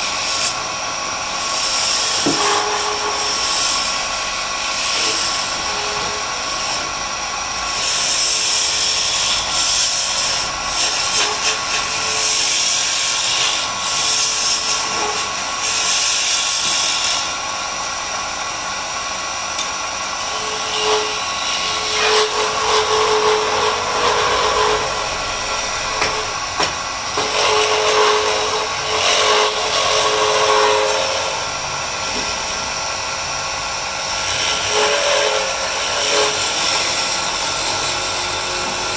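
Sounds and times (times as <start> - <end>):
chisel cutting spinning wood: 0.0 - 38.9
wood lathe motor whine: 0.0 - 38.9.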